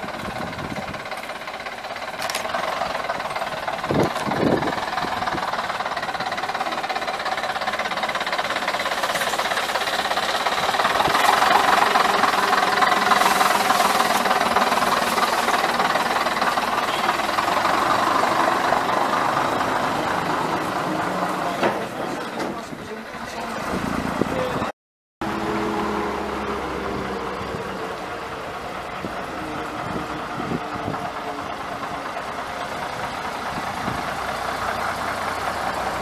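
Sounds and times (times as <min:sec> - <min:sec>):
bus diesel engine clattering: 0:00.0 - 0:36.0.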